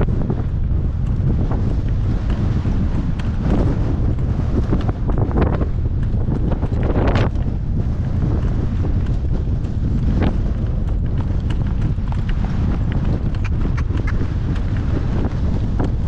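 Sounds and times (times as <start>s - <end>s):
horse hooves trotting: 0.0s - 16.0s
wind buffeting microphone: 0.0s - 16.0s.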